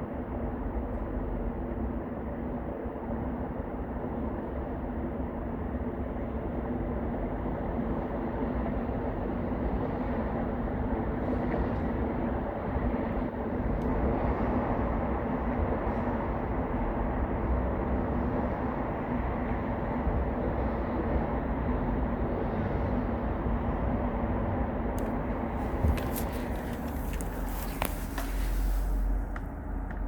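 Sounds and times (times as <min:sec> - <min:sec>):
constant hum: 0:00.0 - 0:30.0
low mechanical rumble: 0:00.0 - 0:30.0.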